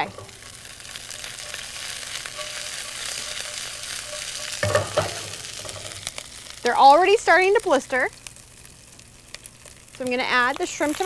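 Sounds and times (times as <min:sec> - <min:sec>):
peppers sizzling in oil: 0:00.0 - 0:11.0.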